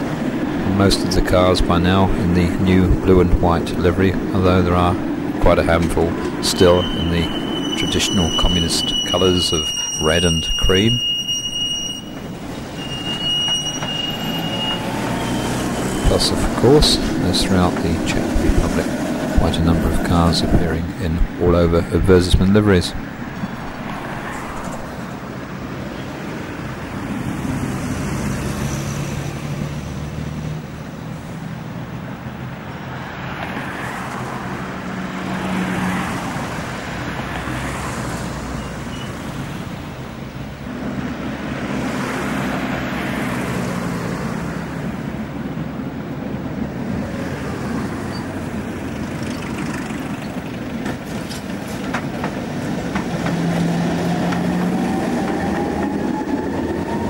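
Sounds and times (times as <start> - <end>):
road vehicles passing: 0.0 - 57.0
trams running past: 0.0 - 57.0.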